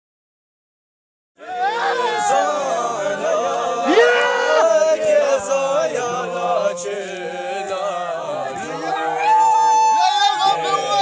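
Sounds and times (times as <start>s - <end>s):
voices chanting in unison: 1.4s - 11.0s.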